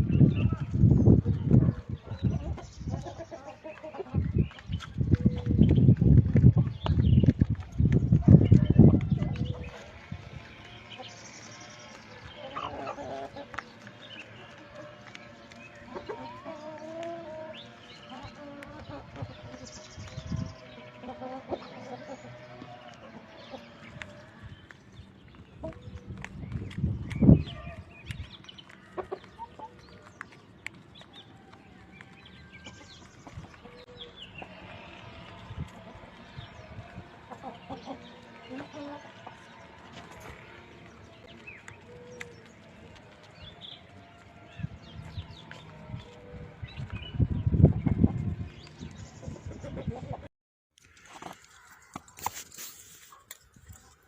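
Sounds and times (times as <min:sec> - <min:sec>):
chickens clucking: 0:00.0 - 0:50.3.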